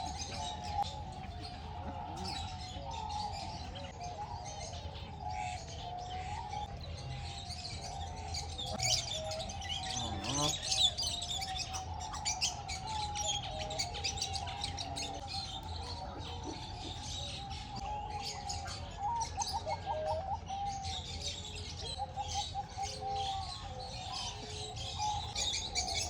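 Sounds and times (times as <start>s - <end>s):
birds chirping in chorus: 0.0s - 26.0s.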